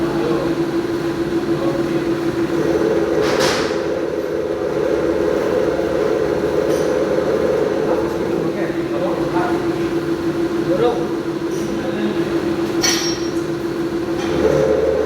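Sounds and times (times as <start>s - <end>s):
milling machine humming: 0.0s - 15.0s.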